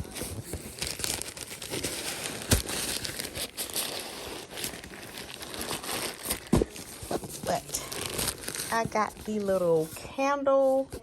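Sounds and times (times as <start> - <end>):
package crinkling and rustling: 0.0 - 10.1.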